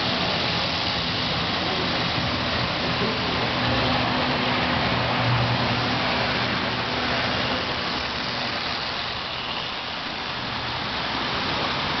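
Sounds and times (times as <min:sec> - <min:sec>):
toy train running on metal track: 0:00.0 - 0:12.0.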